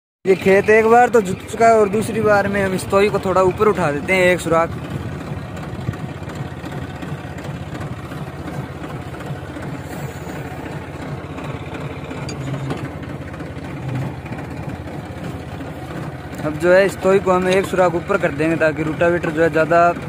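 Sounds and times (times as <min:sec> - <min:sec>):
tractor diesel engine idling: 0:00.3 - 0:20.0.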